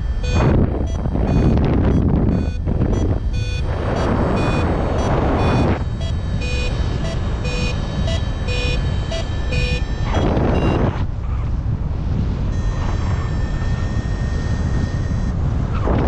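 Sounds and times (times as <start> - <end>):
variometer beeping: 0.0 - 11.0, 12.5 - 15.4
wind on microphone: 0.2 - 16.0.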